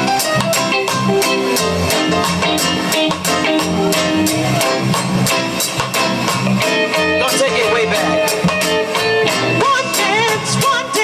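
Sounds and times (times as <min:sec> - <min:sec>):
live band with guitar and bass: 0:00.0 - 0:11.0.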